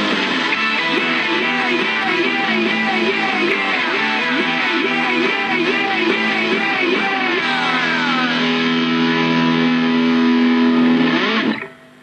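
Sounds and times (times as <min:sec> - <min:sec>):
guitar-led rock music: 0:00.0 - 0:12.0.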